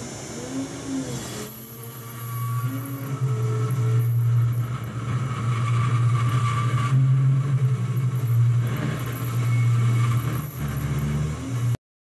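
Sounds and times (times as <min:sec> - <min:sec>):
milling cutter humming and ringing: 0:00.0 - 0:11.8.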